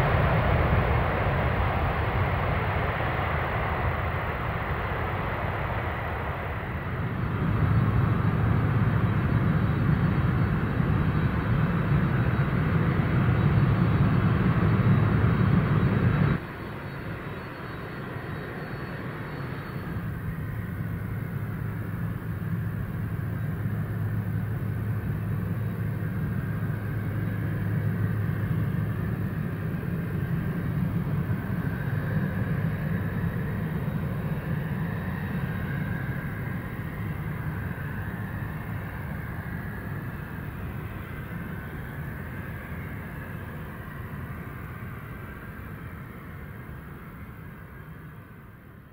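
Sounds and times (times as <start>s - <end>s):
jet engines roaring: 0.0s - 48.1s.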